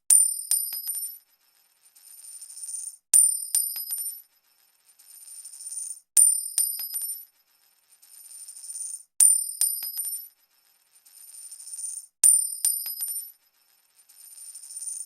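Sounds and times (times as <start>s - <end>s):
coin dropping and bouncing: 0.1s - 15.0s.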